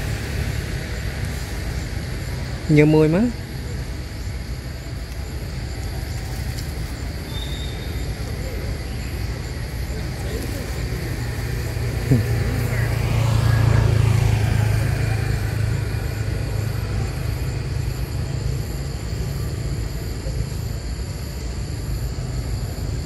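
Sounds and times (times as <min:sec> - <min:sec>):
vehicle engine rumbling past: 0:00.0 - 0:23.0.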